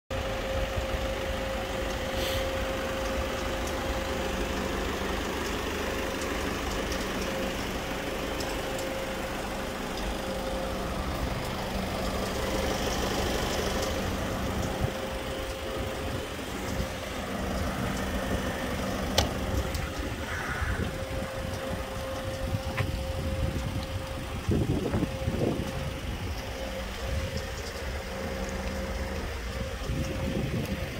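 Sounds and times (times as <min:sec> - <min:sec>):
diesel engine idling: 0:00.1 - 0:30.9.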